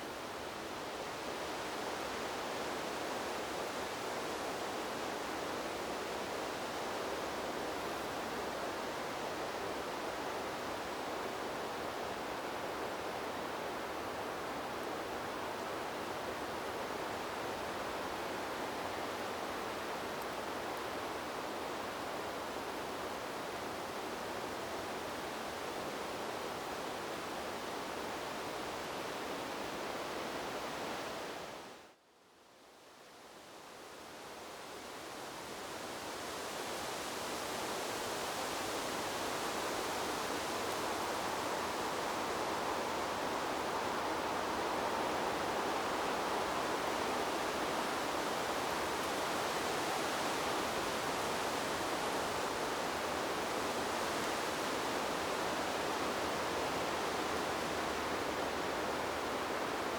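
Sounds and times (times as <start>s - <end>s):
wind through trees: 0.0s - 59.9s.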